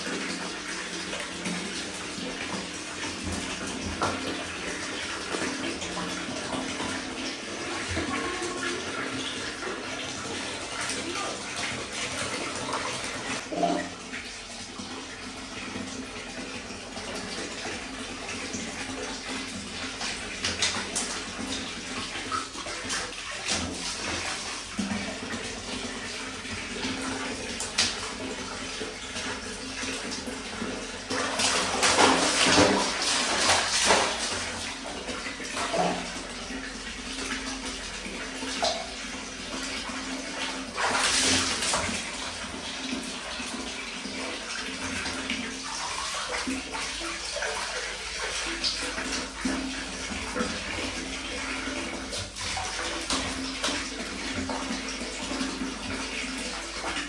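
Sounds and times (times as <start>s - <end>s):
tap water splashing into basin: 0.0s - 57.0s.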